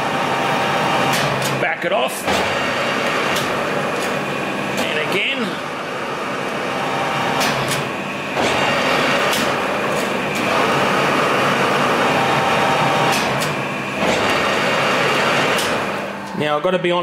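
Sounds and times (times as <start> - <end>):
lathe running: 2.2 - 16.6.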